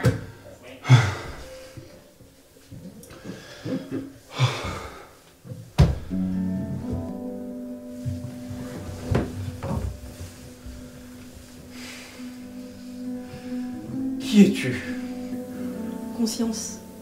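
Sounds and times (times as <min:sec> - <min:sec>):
soft music with held notes: 0:00.0 - 0:17.0.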